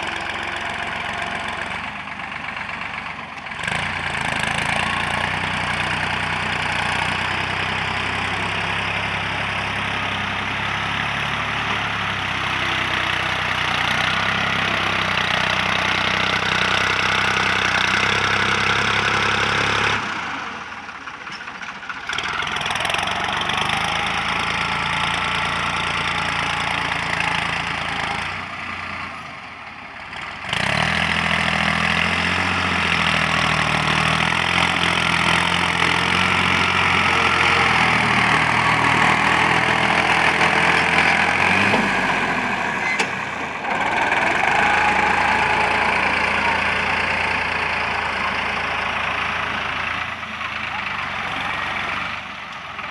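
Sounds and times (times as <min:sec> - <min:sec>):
tractor diesel engine clattering: 0:00.0 - 0:52.9.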